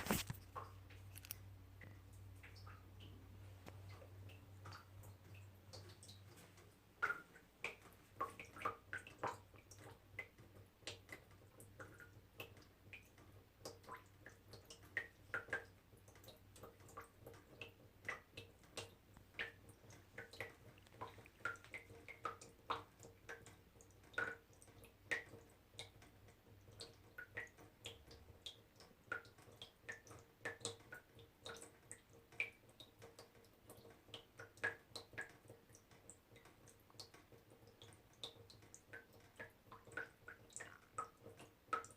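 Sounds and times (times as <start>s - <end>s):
water drops plinking into water: 7.0s - 41.9s.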